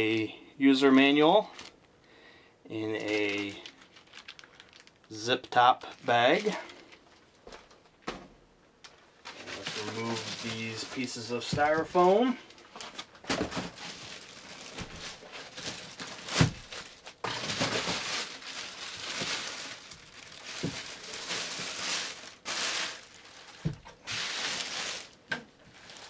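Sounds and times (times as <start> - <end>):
plastic bag crinkling: 1.4 - 1.9, 2.8 - 8.0, 8.8 - 26.0.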